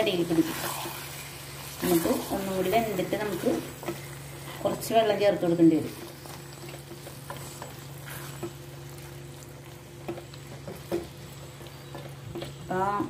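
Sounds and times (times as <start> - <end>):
faint frying sizzle: 0.0 - 13.0
steady low hum: 0.0 - 13.0.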